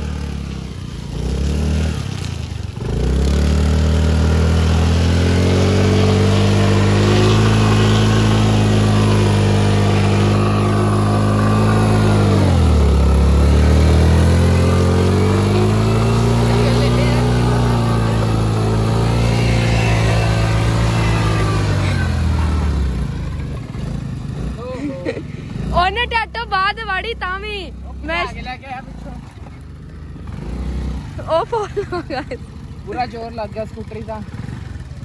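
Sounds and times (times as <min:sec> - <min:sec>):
scooter engine revving hard: 0:00.0 - 0:33.1, 0:33.7 - 0:35.0.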